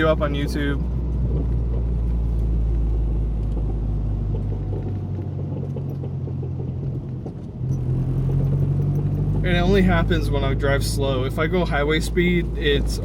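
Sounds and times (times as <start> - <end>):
road and engine rumble: 0.0 - 13.0
suspension clicks and clunks: 0.0 - 13.0.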